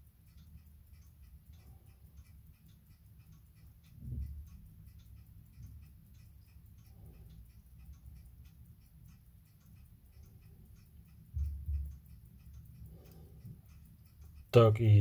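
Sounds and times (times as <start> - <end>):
wristwatch ticking faintly: 0.0 - 15.0.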